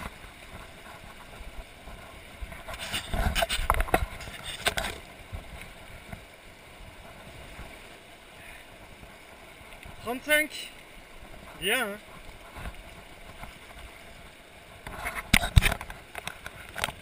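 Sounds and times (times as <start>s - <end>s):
river rushing over stones: 0.0s - 17.0s.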